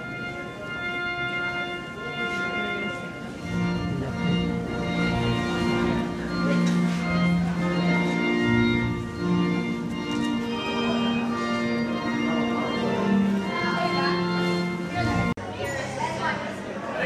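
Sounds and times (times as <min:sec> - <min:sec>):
organ playing slow chords: 0:00.0 - 0:15.4.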